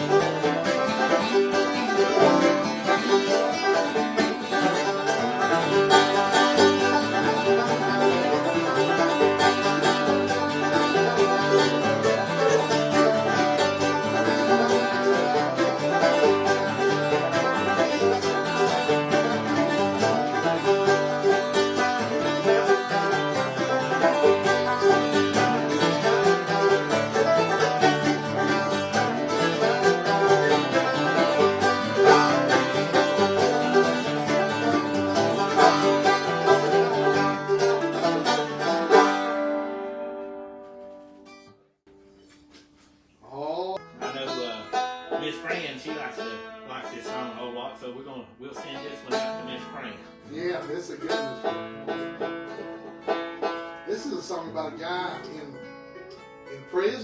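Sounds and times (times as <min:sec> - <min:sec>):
string band playing: 0:00.0 - 0:41.5, 0:43.8 - 0:57.0.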